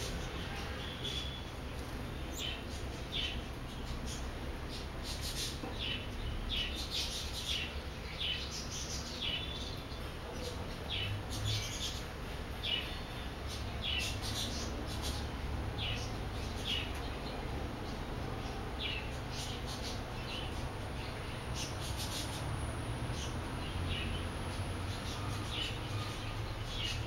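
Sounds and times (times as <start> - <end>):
small bird chirping: 0.0 - 22.5.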